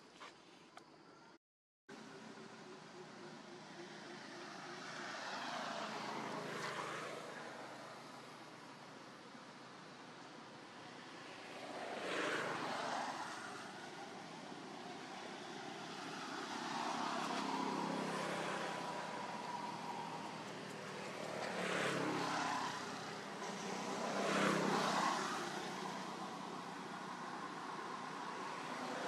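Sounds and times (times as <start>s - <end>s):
vehicles passing: 1.9s - 29.0s.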